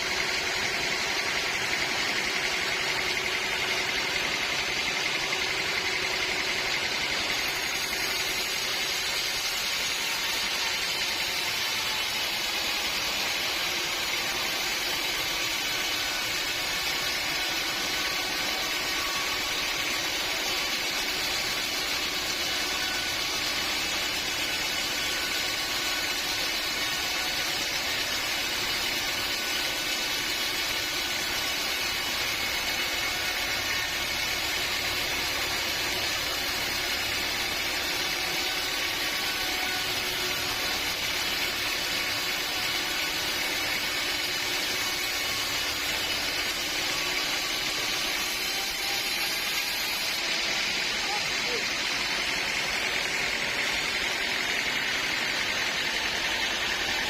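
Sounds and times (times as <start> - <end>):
sawmill machinery hum: 0.0 - 57.0.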